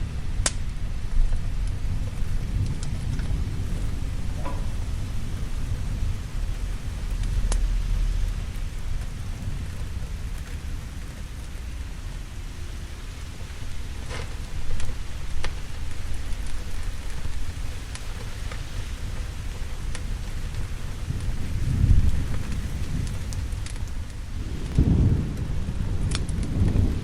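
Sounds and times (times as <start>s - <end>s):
low rumble of thunder: 0.0s - 27.0s
steady rain: 0.0s - 27.0s.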